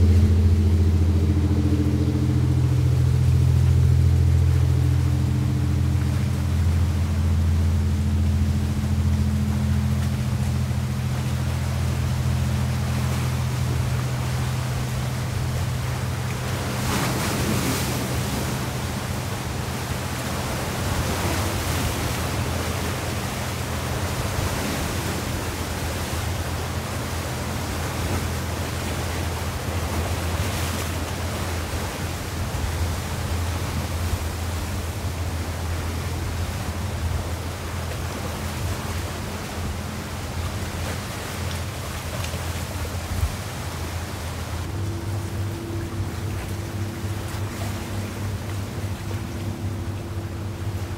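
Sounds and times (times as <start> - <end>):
choppy sea water: 0.0 - 50.9
low steady hum: 0.0 - 50.9.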